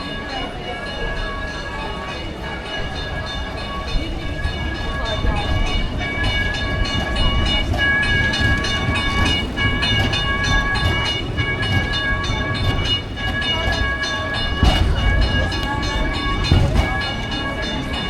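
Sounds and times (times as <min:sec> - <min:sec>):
tram rolling on rails: 0:00.0 - 0:18.0.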